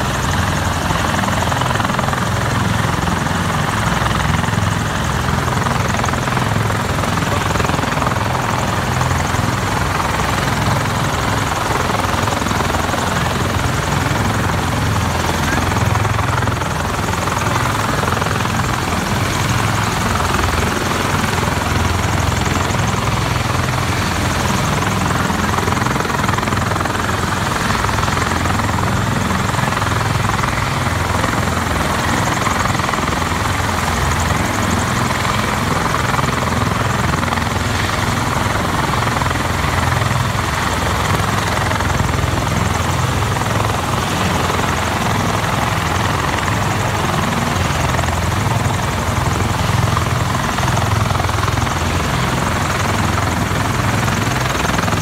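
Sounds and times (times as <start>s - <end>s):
helicopter rotor beat: 0.0s - 55.0s
turbine engine rush: 0.0s - 55.0s.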